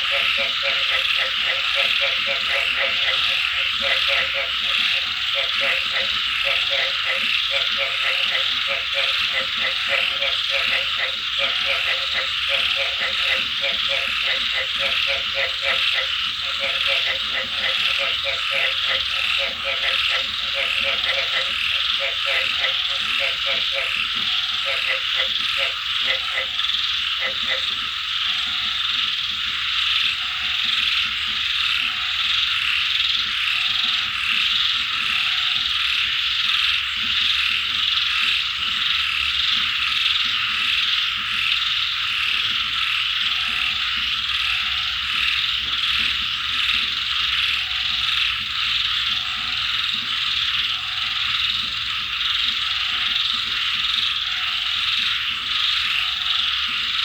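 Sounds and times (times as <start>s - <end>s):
frogs croaking: 0.0s - 57.0s
insects chirping: 0.0s - 57.0s.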